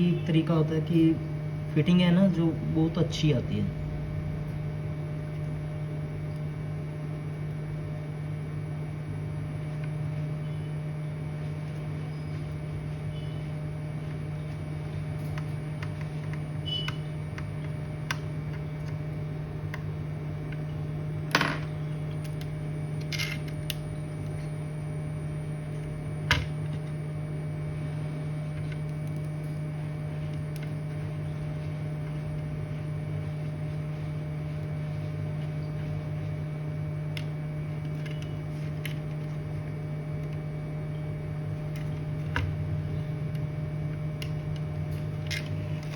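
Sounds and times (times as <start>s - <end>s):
low electrical hum: 0.0s - 45.9s.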